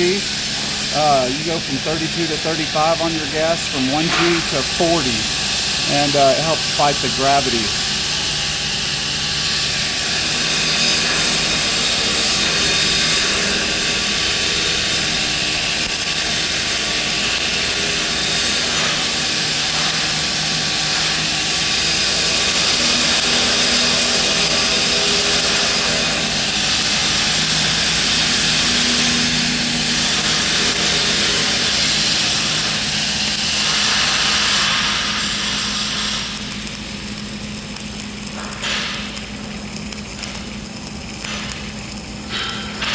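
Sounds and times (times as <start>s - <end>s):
welding arc hissing: 0.0s - 42.9s.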